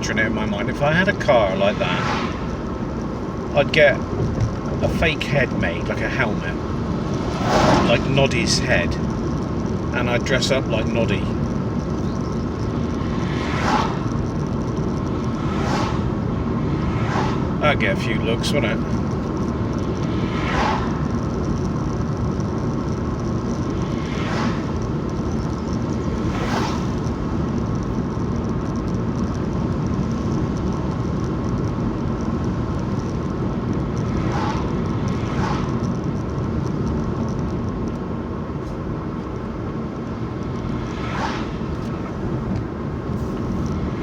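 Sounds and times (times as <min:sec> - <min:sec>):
road and engine rumble in car: 0:00.0 - 0:44.0.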